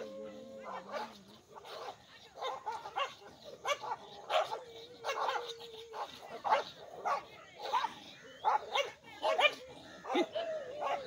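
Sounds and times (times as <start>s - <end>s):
dogs snarling and barking: 0.0s - 11.0s.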